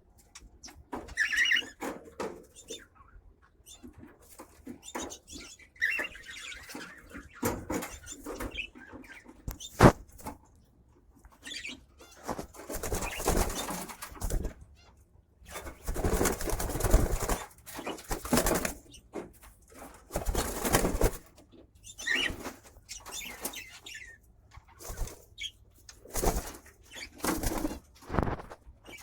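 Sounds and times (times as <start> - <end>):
birds chirping and squeaking: 0.1 - 29.0.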